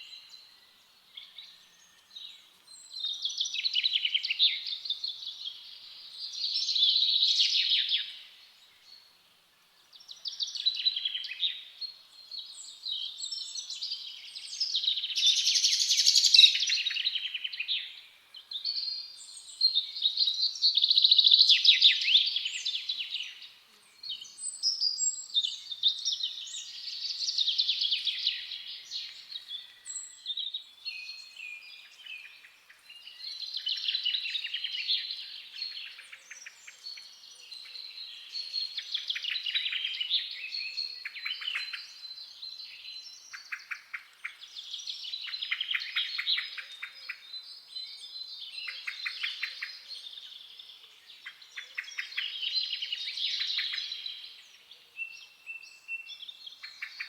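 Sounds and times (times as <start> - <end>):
songbirds singing trilled notes: 0.0 - 57.0.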